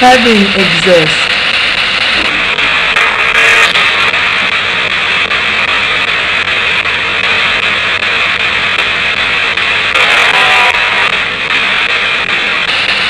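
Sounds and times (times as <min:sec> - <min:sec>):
broken broadcast fragments: 0:00.0 - 0:13.0
radio static hiss: 0:00.0 - 0:13.0.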